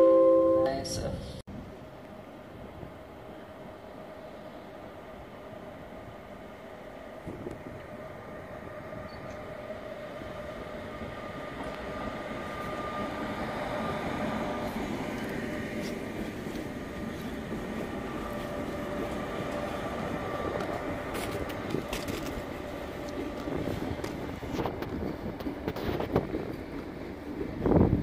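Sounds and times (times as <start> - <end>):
train wheels rumbling on rail: 1.5 - 28.0.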